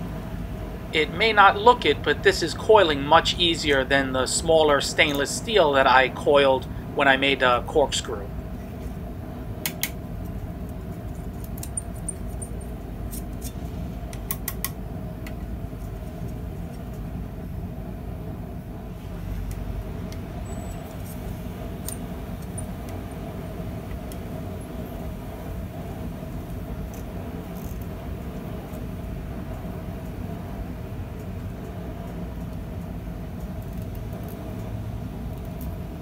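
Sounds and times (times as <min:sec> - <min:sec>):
faint hum: 0:00.0 - 0:36.0.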